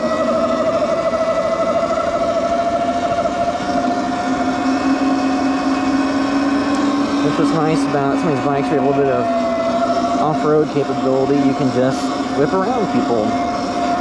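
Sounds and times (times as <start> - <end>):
electric bike motor whining: 0.0 - 14.0.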